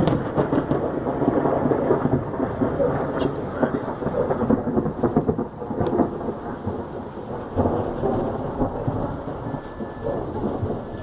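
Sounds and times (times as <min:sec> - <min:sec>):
thunder crack: 0:00.0 - 0:11.0
thunder rumbling: 0:00.0 - 0:11.0.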